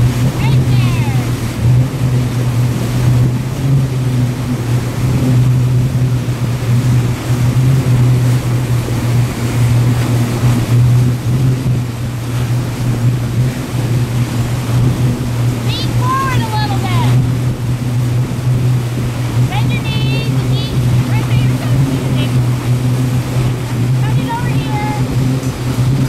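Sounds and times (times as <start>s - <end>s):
boat engine droning: 0.0s - 26.0s
churning wake rushing: 0.0s - 26.0s.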